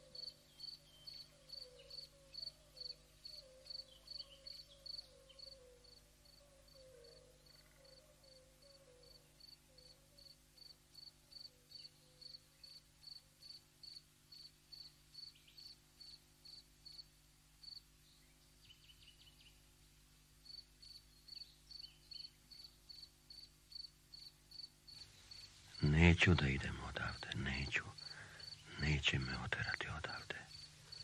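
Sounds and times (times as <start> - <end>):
cricket chirping: 0.0 - 17.9, 20.4 - 31.0.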